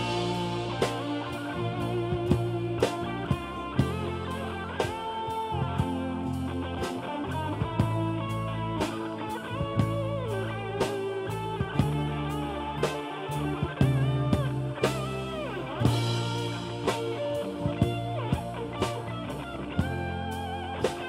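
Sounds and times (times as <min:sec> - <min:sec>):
bluesy electric guitar: 0:00.0 - 0:21.0
steady drum beat: 0:00.0 - 0:21.0.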